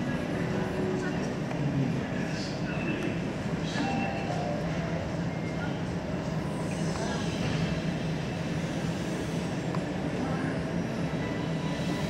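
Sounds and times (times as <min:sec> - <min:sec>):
terminal low hum and rumble: 0:00.0 - 0:12.0.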